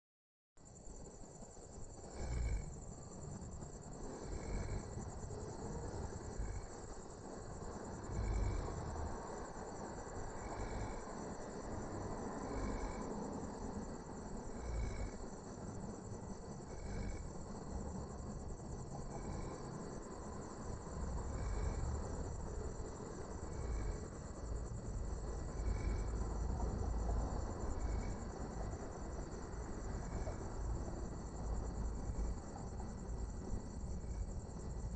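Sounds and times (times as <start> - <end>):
crickets chirping: 0.6 - 34.9
cow snoring: 1.6 - 34.9.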